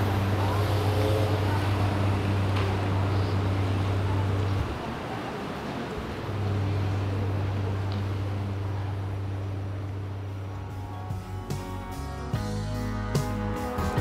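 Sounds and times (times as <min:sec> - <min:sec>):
low engine hum: 0:00.0 - 0:14.0
outdoor background noise: 0:00.0 - 0:14.0.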